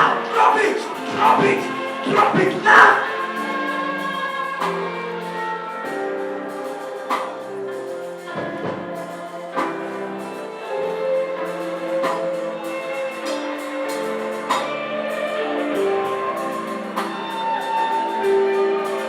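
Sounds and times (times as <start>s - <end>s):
congregation singing: 0.0s - 19.0s
instrumental accompaniment: 0.0s - 19.0s.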